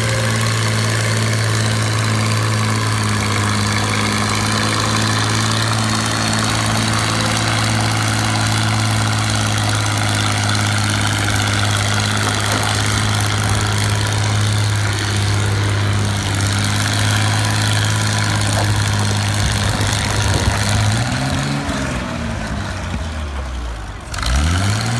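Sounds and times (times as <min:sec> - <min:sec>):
tractor engine idling: 0:00.0 - 0:24.9.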